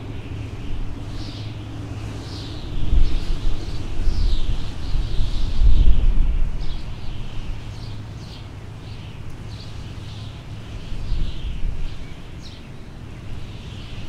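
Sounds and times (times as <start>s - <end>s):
low rumble of wind: 0.0s - 14.0s
small birds chirping: 0.0s - 14.0s.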